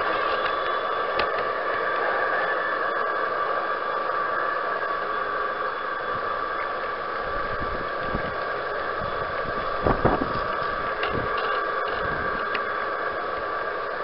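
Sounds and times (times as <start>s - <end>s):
model train whirring hiss: 0.0s - 14.0s.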